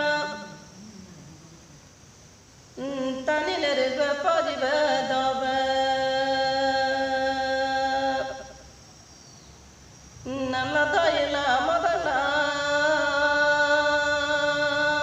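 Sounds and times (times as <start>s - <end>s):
woman singing unaccompanied: 0.0s - 8.7s, 10.2s - 15.0s.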